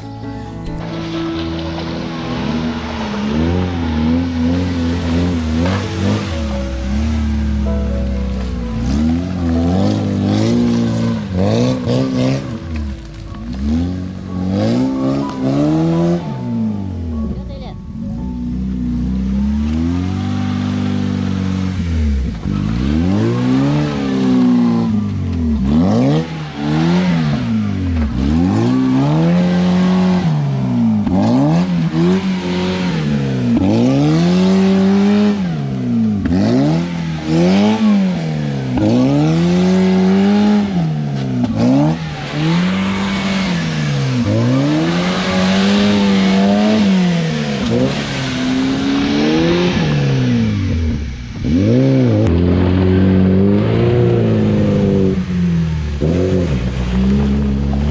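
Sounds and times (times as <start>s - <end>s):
off-road vehicle engine revving: 0.6s - 57.9s.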